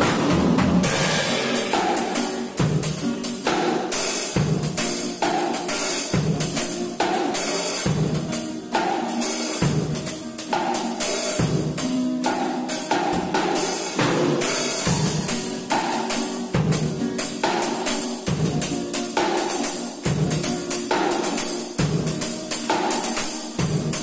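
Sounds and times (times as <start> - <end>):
acoustic guitar chords: 0.0 - 24.0
drum kit playing a beat: 0.0 - 24.0.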